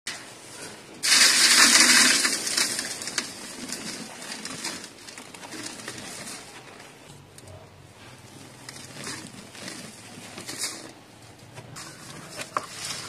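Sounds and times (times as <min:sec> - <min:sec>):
dirt pouring onto a metal sieve: 0:00.1 - 0:06.9, 0:08.2 - 0:13.0
crackling trickles of grains: 0:00.1 - 0:13.0.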